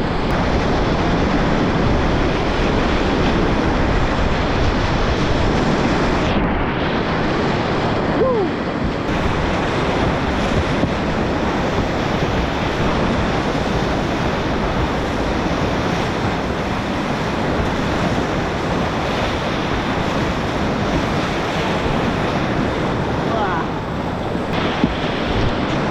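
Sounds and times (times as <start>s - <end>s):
rushing whitewater river: 0.0s - 25.9s.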